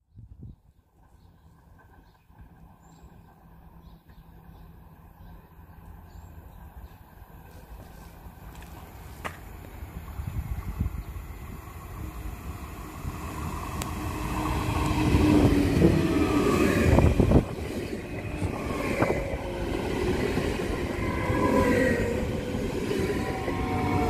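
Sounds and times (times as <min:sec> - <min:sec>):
wheels rumbling on rails: 0:00.8 - 0:24.0
electric train passing: 0:00.9 - 0:24.0.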